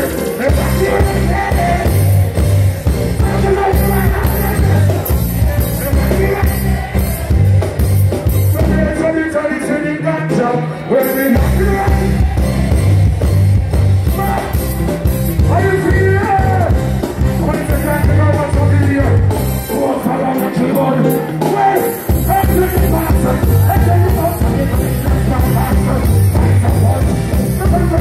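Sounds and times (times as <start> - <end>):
man singing: 0.0 - 7.6, 8.5 - 12.7, 15.4 - 16.8, 17.4 - 28.0
live reggae band playing: 0.0 - 28.0.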